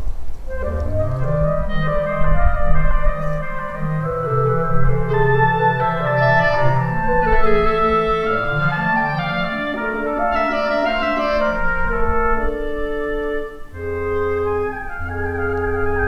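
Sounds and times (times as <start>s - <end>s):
slow instrumental music: 0.5s - 16.0s.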